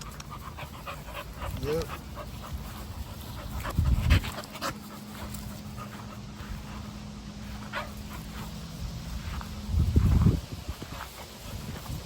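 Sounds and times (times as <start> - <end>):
dog panting: 0.0 - 12.0
steady low hum: 0.0 - 12.0.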